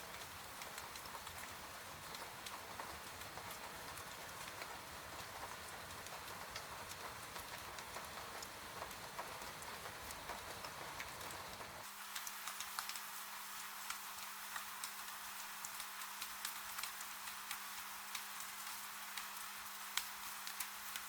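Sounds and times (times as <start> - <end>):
rain falling: 0.0 - 21.0
wood fire crackling: 0.0 - 21.0.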